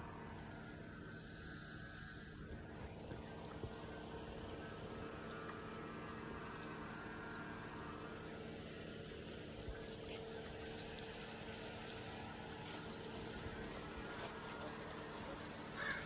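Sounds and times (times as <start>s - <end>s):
faint road noise: 0.0s - 16.0s
vehicle engine hum: 0.0s - 16.0s.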